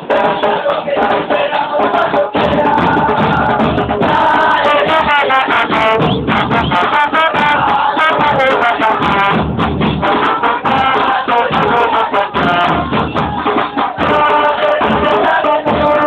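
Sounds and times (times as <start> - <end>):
football supporters chanting: 0.0 - 9.4, 10.0 - 16.0
drums and percussion: 0.0 - 16.0.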